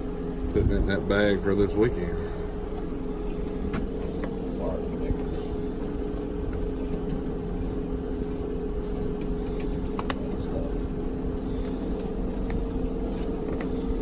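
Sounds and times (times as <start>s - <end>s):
mechanical hum with pitched tone: 0.0s - 14.0s.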